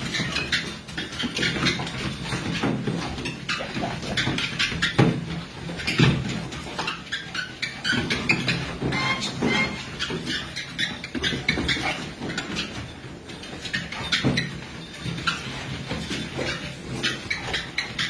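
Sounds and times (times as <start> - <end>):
dog paws pattering on treadmill: 0.0 - 18.0.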